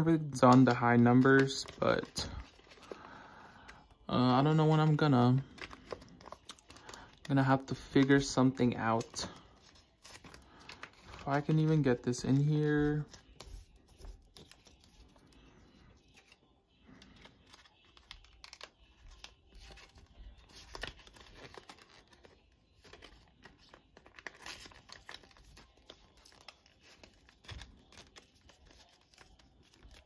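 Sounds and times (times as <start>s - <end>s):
paper rustling and crinkling: 0.3s - 30.0s.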